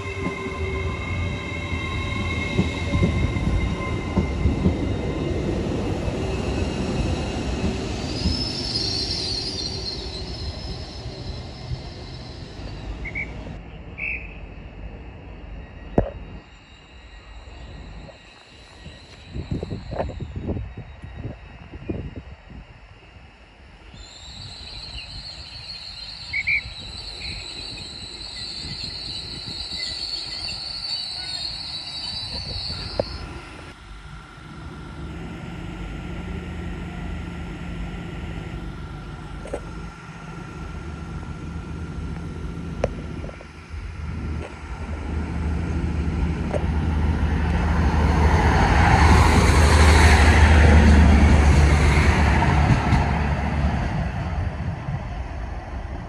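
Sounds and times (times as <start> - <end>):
high-pitched whine: 0.0 - 52.0
train engine drone: 0.0 - 56.0
wheel and rail noise: 0.0 - 56.0.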